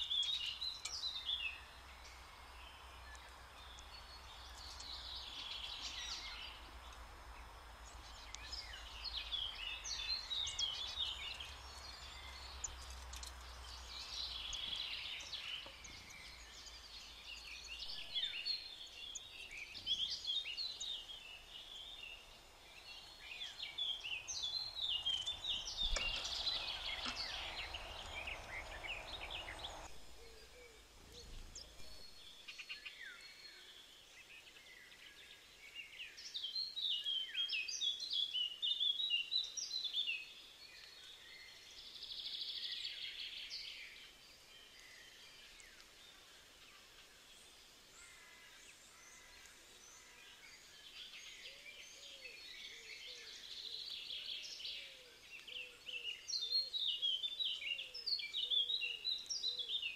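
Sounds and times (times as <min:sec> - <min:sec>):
songbirds singing: 0:00.0 - 0:59.9
steady background hiss: 0:00.0 - 0:59.9.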